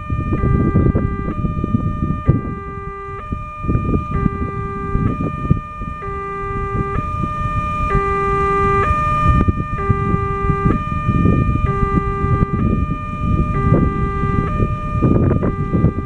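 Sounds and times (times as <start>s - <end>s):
low rumbling noise: 0.0s - 16.0s
two-tone crossing alarm chime: 0.0s - 16.0s.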